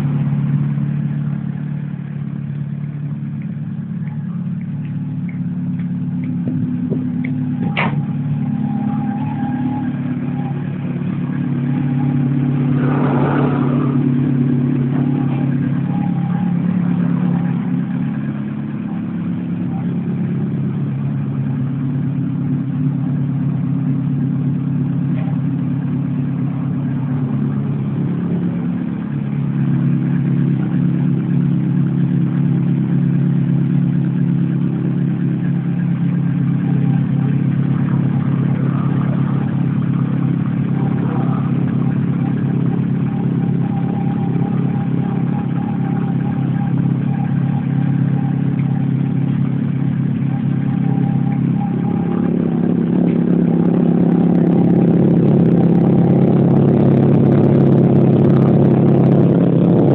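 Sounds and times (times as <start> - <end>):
motorcycle engine idling: 0.0 - 12.9, 13.5 - 59.9.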